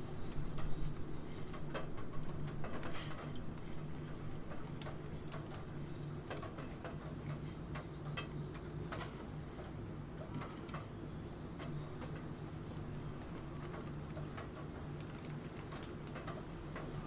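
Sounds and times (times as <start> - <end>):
rain: 0.0 - 17.0.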